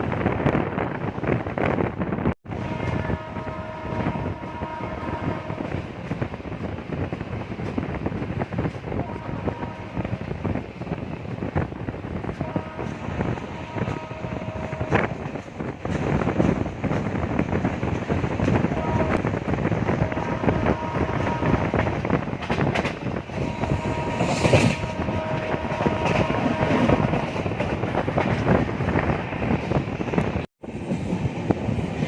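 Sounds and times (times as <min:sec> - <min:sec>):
train wheels rumbling and rattling: 0:00.0 - 0:32.0.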